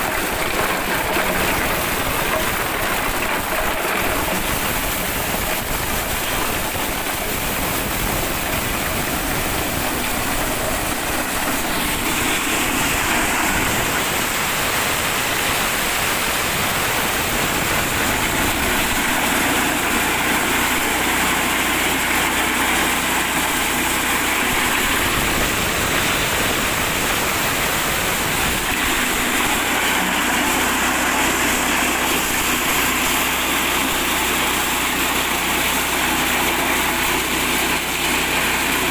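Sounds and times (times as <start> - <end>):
corn sheller rushing noise: 0.0 - 38.9
engine drone: 0.0 - 38.9.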